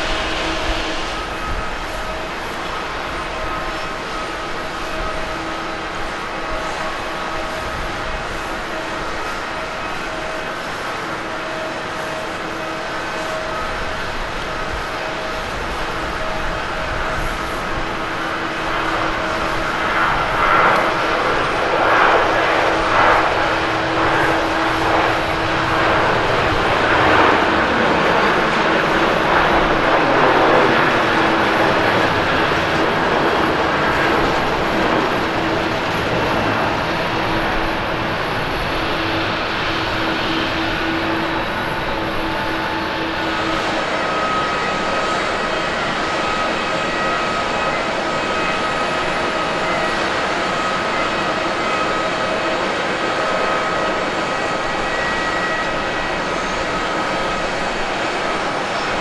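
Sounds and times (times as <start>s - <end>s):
jet engines at take-off thrust: 0.0s - 59.0s.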